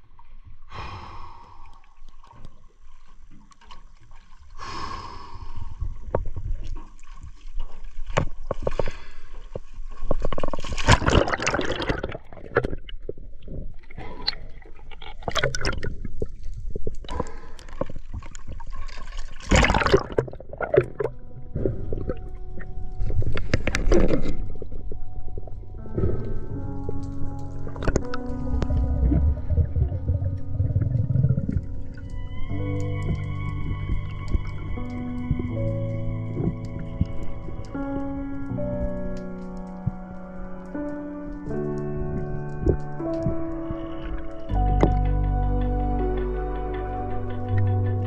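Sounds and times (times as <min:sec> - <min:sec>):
water sloshing and gurgling: 0:00.0 - 0:48.0
water splashing: 0:01.9 - 0:45.2.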